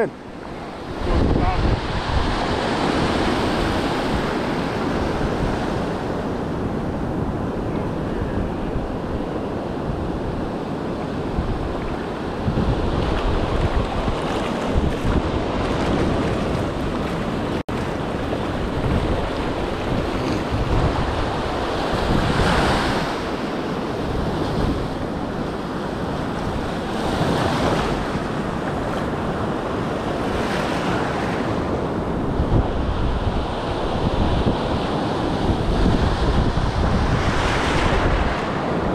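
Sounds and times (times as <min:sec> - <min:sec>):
ocean waves breaking: 0:00.0 - 0:38.9
wind buffeting microphone: 0:00.0 - 0:38.9.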